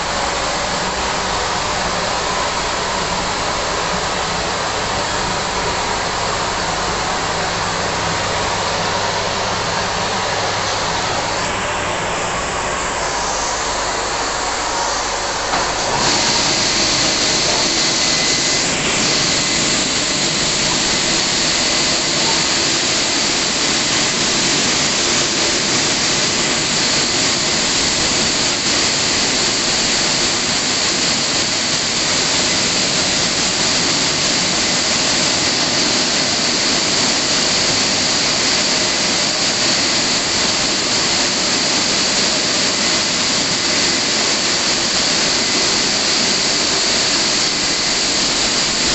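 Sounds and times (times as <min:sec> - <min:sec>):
dryer blowers rushing air: 0:00.0 - 0:48.9.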